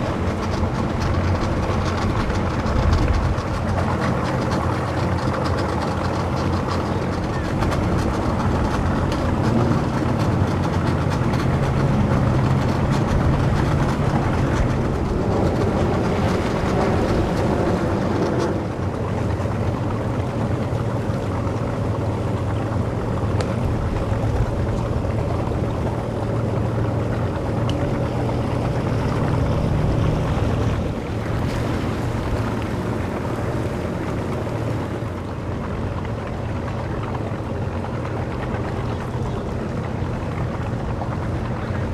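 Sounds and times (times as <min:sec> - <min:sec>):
boat motor running at low speed: 0:00.0 - 0:41.9.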